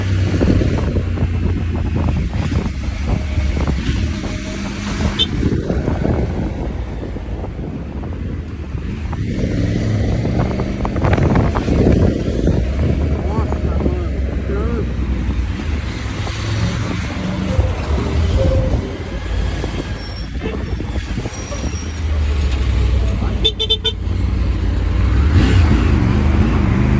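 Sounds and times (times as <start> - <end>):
wind buffeting microphone: 0.0 - 23.4
motorcycle engine rumble: 0.0 - 26.9
traffic: 0.0 - 26.9.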